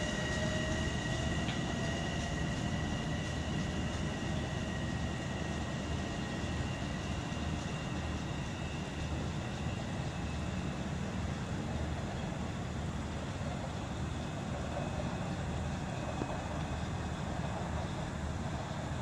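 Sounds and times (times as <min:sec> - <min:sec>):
distant train rumble: 0:00.0 - 0:19.0
faint high ringing from rails: 0:00.0 - 0:19.0.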